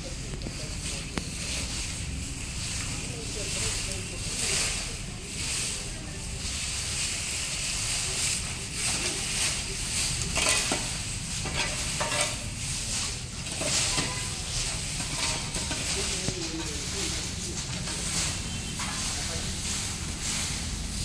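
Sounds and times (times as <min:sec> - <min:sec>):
brooms scraping leaves: 0:00.0 - 0:21.0.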